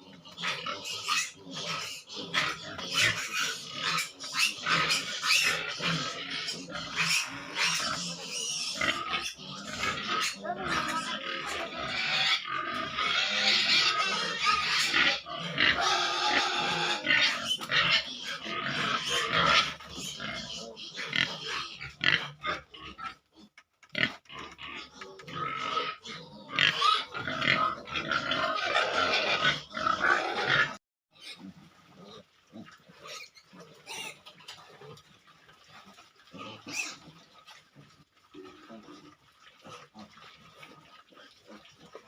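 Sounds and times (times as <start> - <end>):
pigs grunting and squealing: 0.0 - 42.0.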